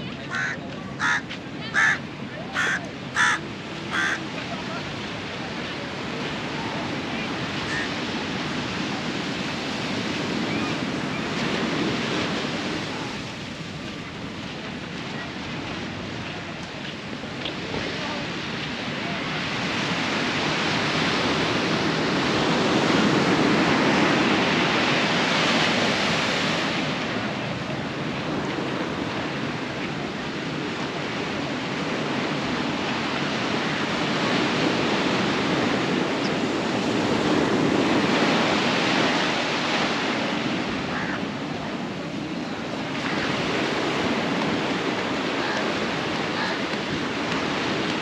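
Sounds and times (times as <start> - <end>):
sea surf breaking on shore: 0.0 - 48.0.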